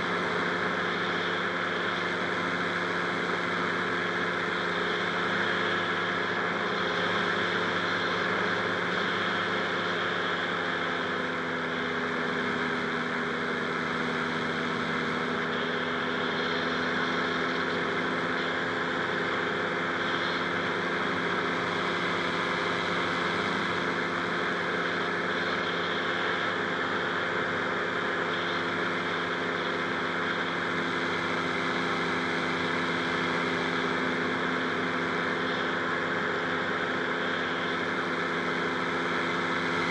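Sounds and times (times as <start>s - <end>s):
two-stroke engine running steadily: 0.0s - 39.9s.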